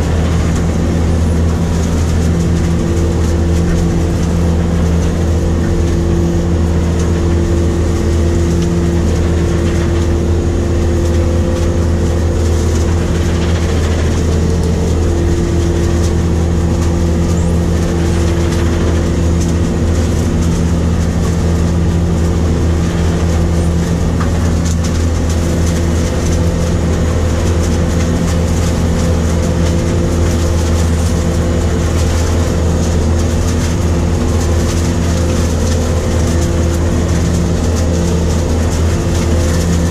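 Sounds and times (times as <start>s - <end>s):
harvester engine drone: 0.0s - 39.9s
machinery noise: 0.0s - 39.9s.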